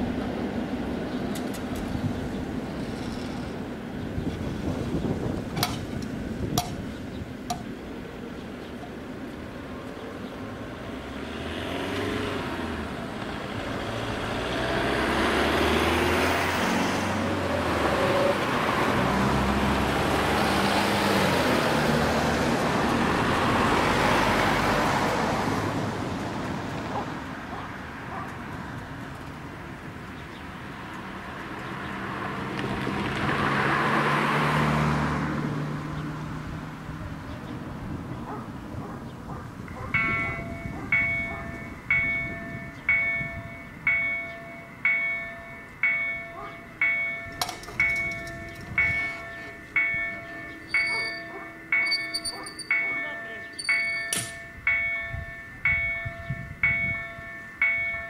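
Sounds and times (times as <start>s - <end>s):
vehicles passing close by: 0.0s - 58.0s.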